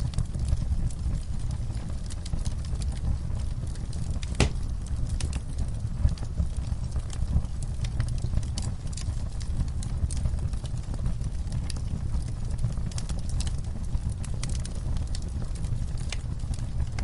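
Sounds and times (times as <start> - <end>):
fire crackles and pops: 0.0 - 17.0
fireplace flames rumbling: 0.0 - 17.0.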